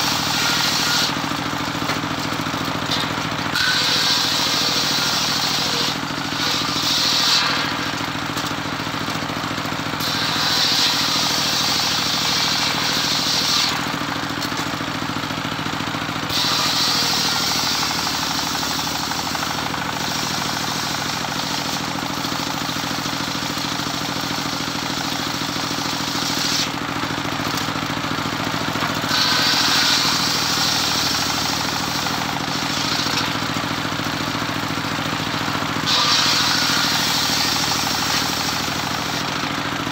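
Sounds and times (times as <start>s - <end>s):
circular sawmill cutting wood: 0.0s - 39.9s
engine drone: 0.0s - 39.9s.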